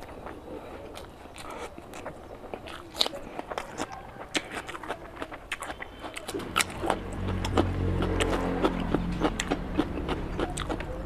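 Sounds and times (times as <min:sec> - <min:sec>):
eating with wet mouth smacks: 0:00.0 - 0:11.0.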